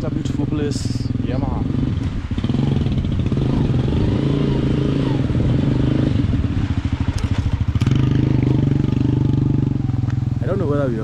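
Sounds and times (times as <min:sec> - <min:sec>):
motor engine humming: 0:00.0 - 0:11.0.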